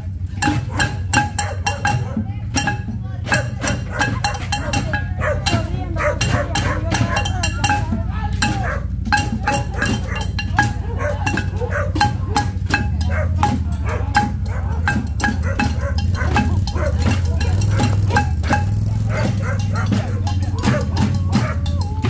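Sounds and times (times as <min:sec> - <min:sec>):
pots and pans beaten: 0:00.0 - 0:22.0.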